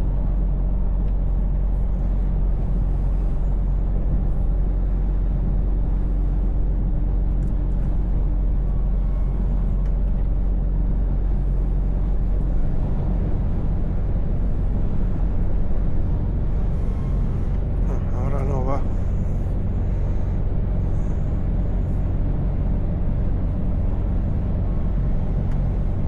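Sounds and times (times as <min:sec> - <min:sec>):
road noise inside cab: 0:00.0 - 0:26.0
truck engine droning: 0:00.0 - 0:26.0.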